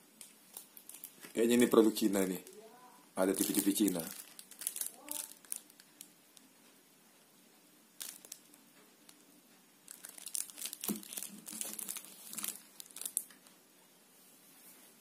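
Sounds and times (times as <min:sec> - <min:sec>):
crinkling rustle: 0:00.2 - 0:06.8, 0:08.0 - 0:13.6.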